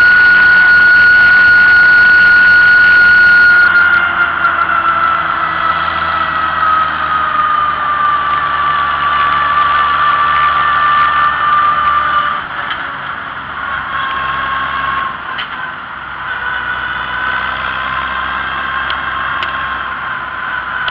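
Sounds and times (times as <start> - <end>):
tractor engine whining: 0.0 - 20.9.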